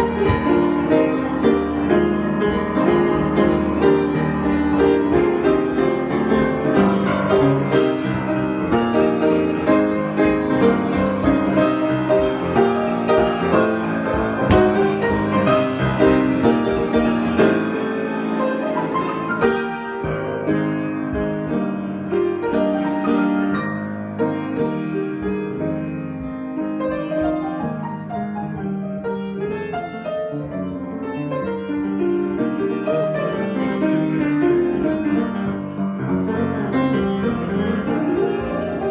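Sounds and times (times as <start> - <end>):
piano improvisation: 0.0 - 38.9.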